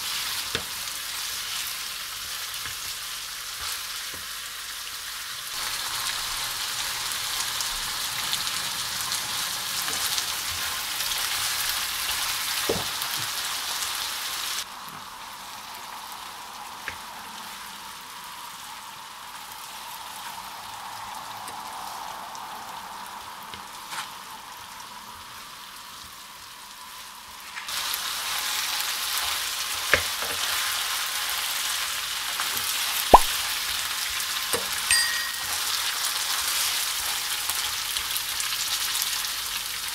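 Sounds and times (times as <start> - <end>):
chicken sizzling in oil: 0.0 - 39.9.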